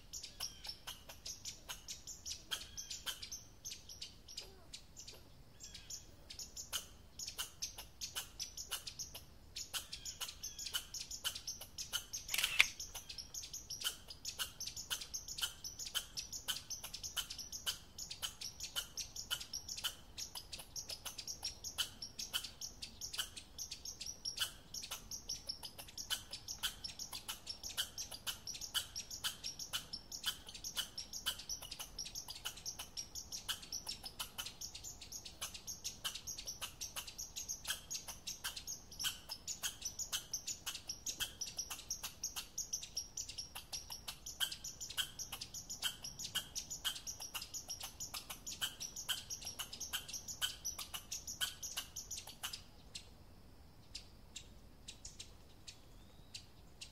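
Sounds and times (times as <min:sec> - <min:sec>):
squirrel chirping: 0:00.0 - 0:53.2, 0:53.8 - 0:56.9.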